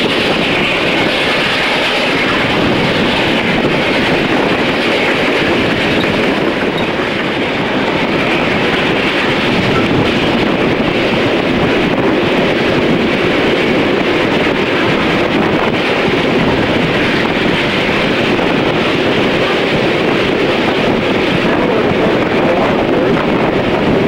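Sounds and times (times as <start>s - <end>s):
train coach rolling on track: 0.0s - 24.0s
wind buffeting microphone: 0.0s - 24.0s.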